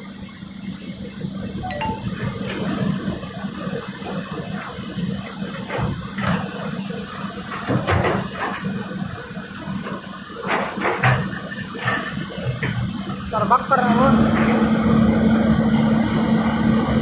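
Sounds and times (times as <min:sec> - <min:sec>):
excavator diesel engine running: 0:00.1 - 0:17.0.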